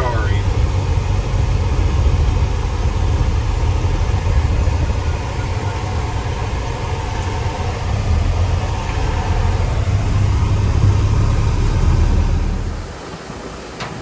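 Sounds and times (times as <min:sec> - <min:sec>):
diesel truck engine rumbling: 0:00.0 - 0:13.4.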